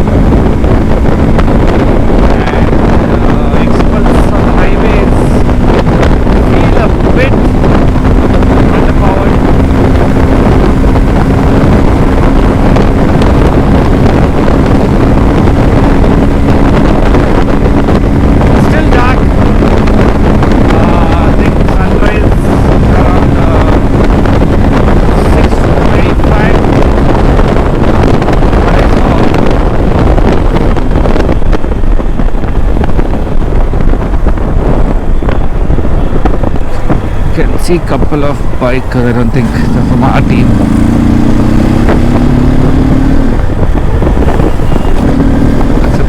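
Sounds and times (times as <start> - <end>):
motorcycle engine drone: 0.0 - 46.0
wind buffeting microphone: 0.0 - 46.0.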